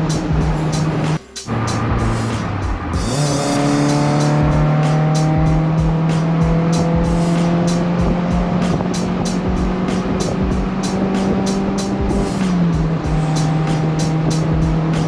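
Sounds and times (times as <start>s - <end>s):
car engine at high revs: 0.0s - 15.0s
music with steady drum beat: 0.0s - 15.0s.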